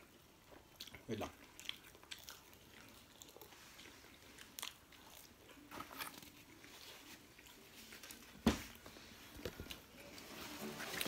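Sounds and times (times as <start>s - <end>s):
biting and chewing food: 0.0s - 10.0s.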